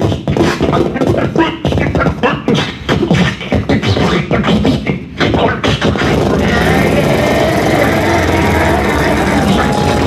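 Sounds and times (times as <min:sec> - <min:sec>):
amplified choppy vocal sounds: 0:00.0 - 0:10.0.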